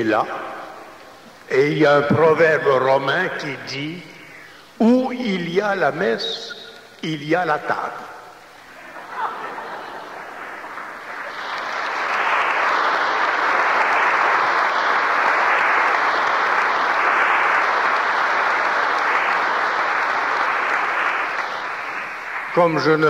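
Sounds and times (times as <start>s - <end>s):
congregation applauding: 0.0s - 23.0s.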